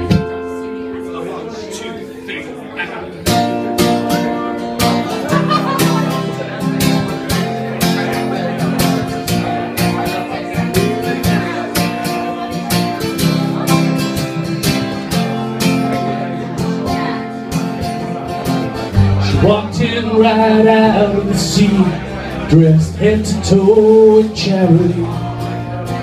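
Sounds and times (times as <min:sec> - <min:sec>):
country-rock band playing: 0:00.0 - 0:26.0.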